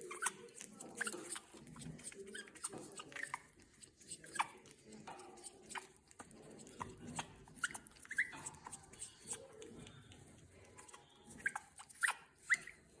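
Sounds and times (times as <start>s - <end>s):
parrot squeaks: 0.0s - 4.6s, 5.2s - 9.6s, 10.8s - 13.0s
parrot chewing with beak: 0.0s - 13.0s.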